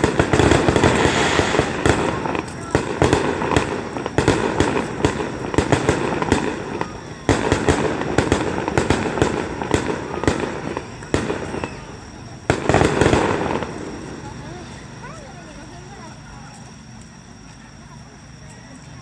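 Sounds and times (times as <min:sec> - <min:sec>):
fireworks bursting with crackles: 0:00.0 - 0:19.0.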